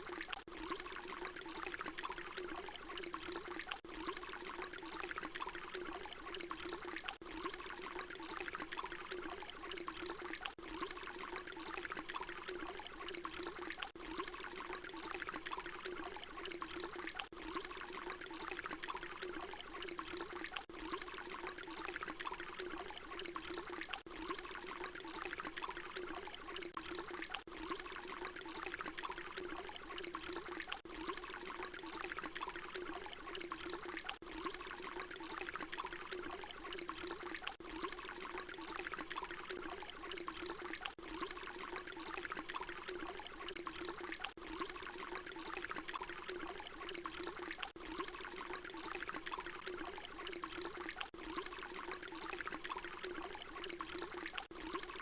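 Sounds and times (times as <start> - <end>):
water pouring in a stream: 0.0 - 55.0.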